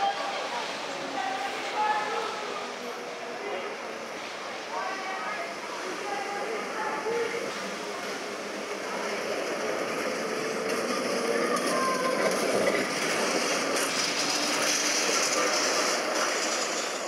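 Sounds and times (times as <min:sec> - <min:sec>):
tram wheels rattling on rails: 0:00.0 - 0:17.0.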